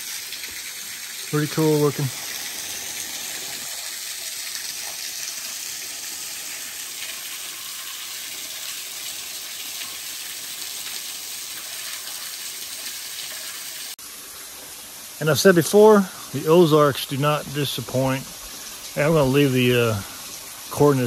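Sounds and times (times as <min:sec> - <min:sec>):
small waterfall splashing on rocks: 0:00.0 - 0:21.0.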